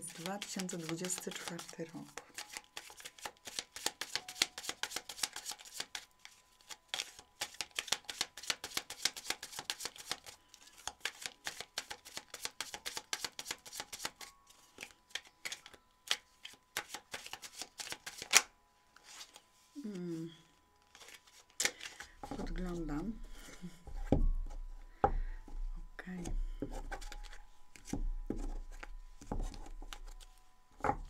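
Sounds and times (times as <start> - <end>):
cards being shuffled: 0.0 - 19.4, 20.8 - 22.8, 26.2 - 30.3.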